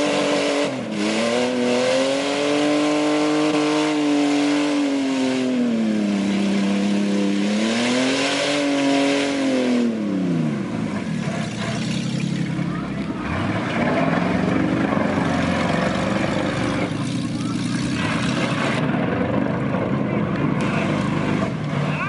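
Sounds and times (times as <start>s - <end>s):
truck engine revving hard: 0.0s - 19.8s.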